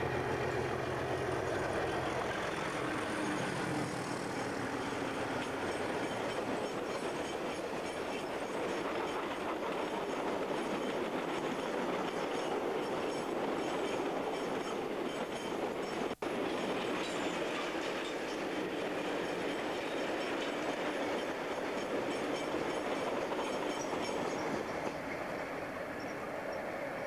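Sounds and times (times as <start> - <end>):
freight wagons rumbling on rails: 0.0 - 27.0.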